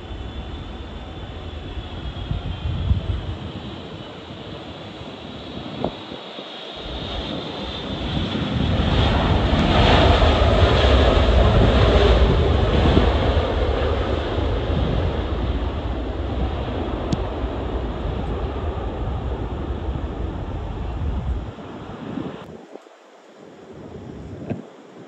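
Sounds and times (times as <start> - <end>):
jet engines passing: 0.0 - 22.5
wind rumbling on microphone: 0.0 - 25.0.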